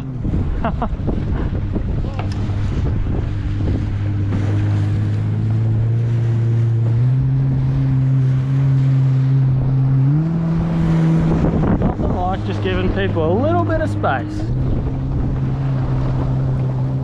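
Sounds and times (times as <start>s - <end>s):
jet ski engine droning: 0.0s - 17.0s
water noise: 0.0s - 17.0s
wind noise: 0.0s - 17.0s.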